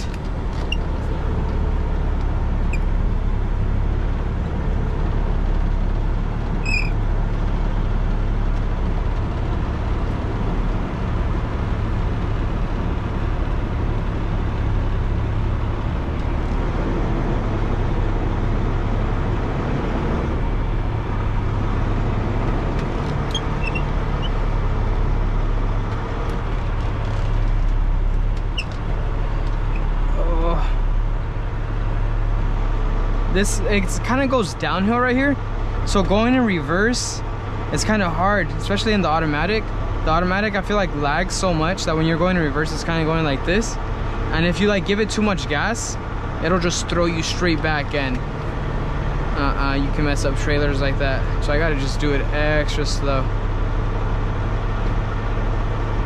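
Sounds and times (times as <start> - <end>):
truck diesel engine rumble: 0.0 - 56.0.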